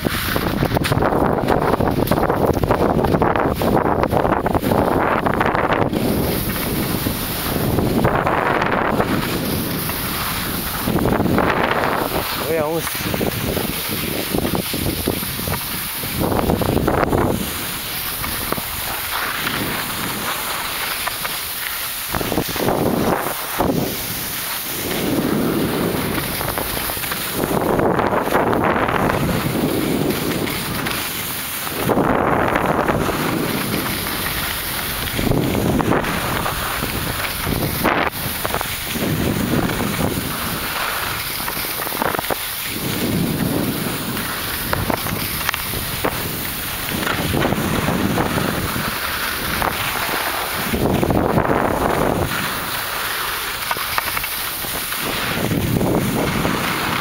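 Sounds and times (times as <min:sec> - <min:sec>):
skis scraping on snow: 0:00.0 - 0:57.0
wind rushing over microphone: 0:00.0 - 0:57.0.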